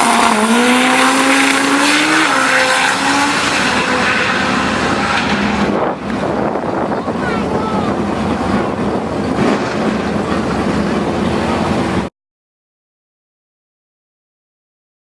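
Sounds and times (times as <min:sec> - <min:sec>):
drag car engine accelerating: 0:00.0 - 0:12.1
steady rushing noise: 0:00.0 - 0:12.1.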